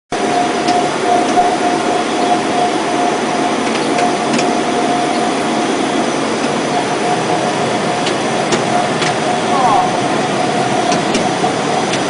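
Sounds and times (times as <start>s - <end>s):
machine noise with constant whine: 0.1s - 12.0s.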